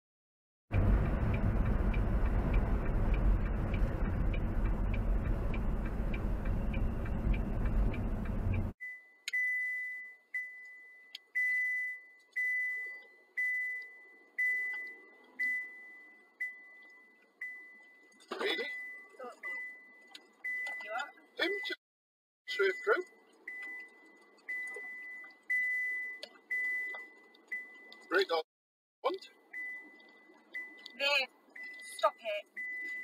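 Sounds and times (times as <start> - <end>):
road and engine noise in truck cab: 0.7 - 21.8, 22.5 - 28.4, 29.0 - 33.0
car electronic chime beeping: 1.4 - 21.8, 22.5 - 28.4, 29.3 - 33.0.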